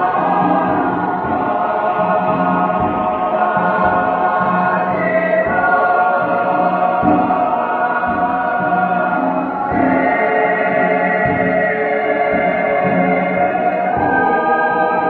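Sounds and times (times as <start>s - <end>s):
choir singing in parts: 0.0s - 15.0s.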